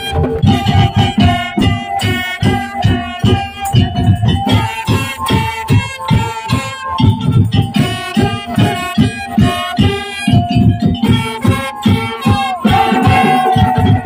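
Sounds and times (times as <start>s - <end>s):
fast drum strokes: 0.0s - 14.0s
high held melody line: 0.0s - 14.0s.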